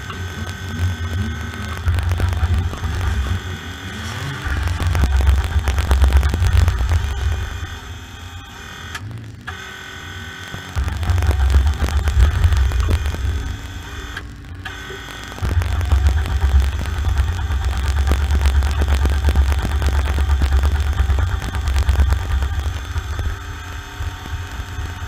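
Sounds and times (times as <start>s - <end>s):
race car engine rumbling: 0.0s - 25.0s.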